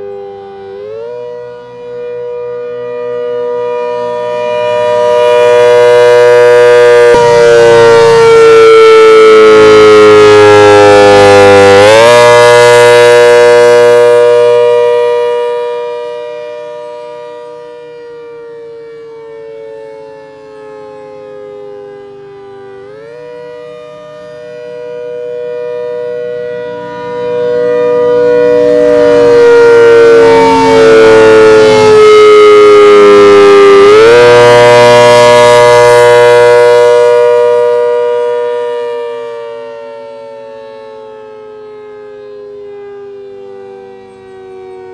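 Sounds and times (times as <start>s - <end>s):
outdoor warning siren: 0.0s - 44.9s.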